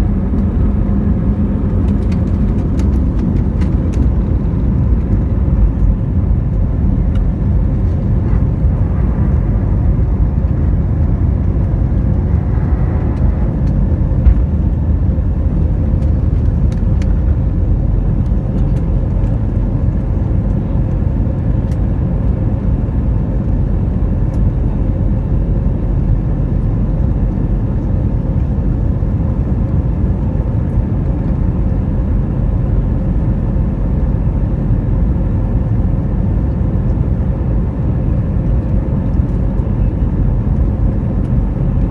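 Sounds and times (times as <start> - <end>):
jet engines at takeoff thrust: 0.0 - 41.9.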